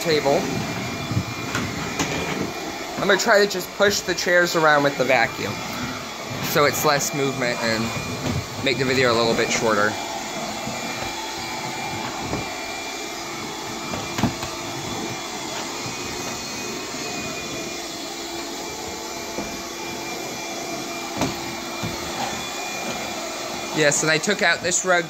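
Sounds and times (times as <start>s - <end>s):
cordless vacuum running: 0.0s - 25.0s
vacuum head knocking chairs: 0.0s - 25.0s.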